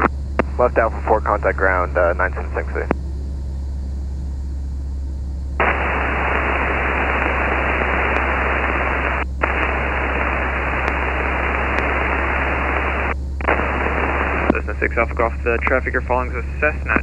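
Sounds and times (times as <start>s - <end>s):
radio static hiss: 0.0s - 3.0s, 5.6s - 17.0s
low cockpit audio drone: 0.0s - 17.0s.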